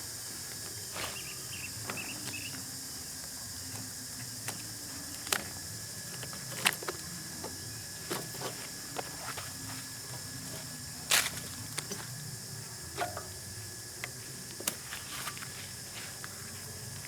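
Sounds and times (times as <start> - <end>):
high insect chorus: 0.0 - 17.0.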